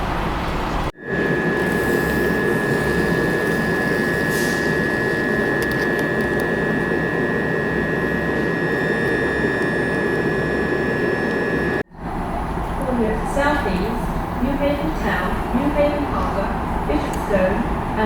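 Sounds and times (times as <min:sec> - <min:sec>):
electric train equipment humming: 0:00.0 - 0:18.0.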